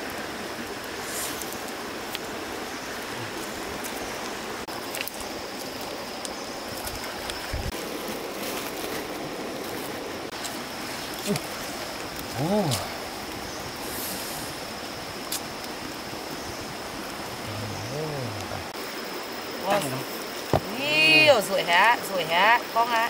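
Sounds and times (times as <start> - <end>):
wood fire crackling: 0.0 - 22.9
stream running over rocks: 0.0 - 23.0.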